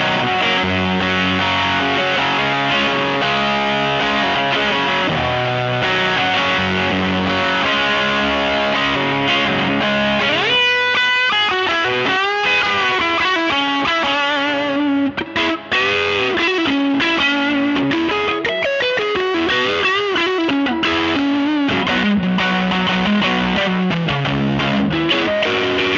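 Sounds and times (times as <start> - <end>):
fuzzed electric guitar chords: 0.0 - 25.9
guitar lead with bent notes: 0.0 - 25.9.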